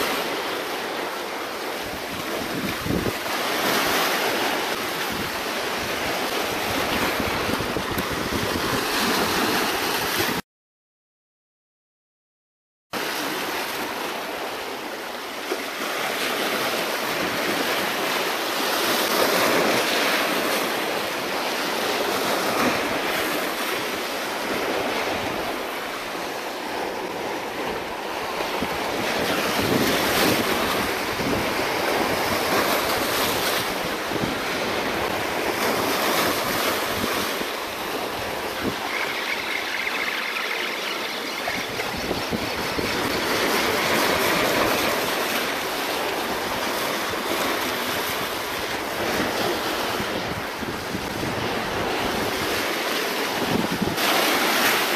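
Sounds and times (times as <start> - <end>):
waves breaking against rocks: 0.0 - 10.4, 13.0 - 54.9.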